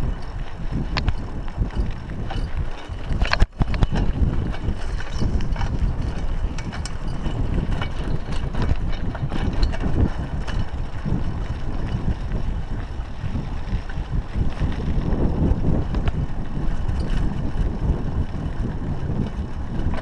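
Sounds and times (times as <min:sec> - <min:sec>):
bike clicks and rattles: 0:00.0 - 0:20.0
tyres on dirt: 0:00.0 - 0:20.0
wind on microphone: 0:00.0 - 0:20.0.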